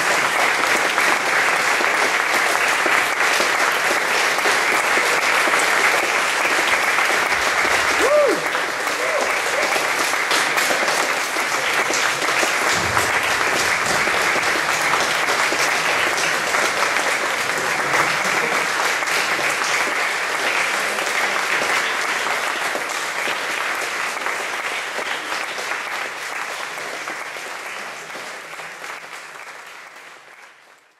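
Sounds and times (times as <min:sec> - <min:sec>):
audience applauding: 0:00.0 - 0:30.9.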